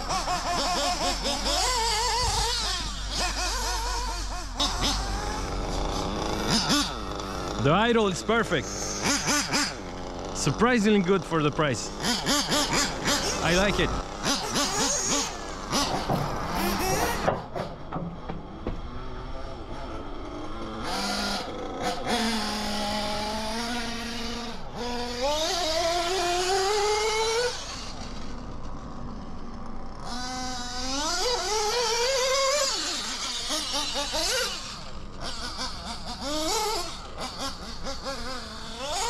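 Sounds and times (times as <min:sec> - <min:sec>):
nitro rc engine revving: 0:00.0 - 0:39.0.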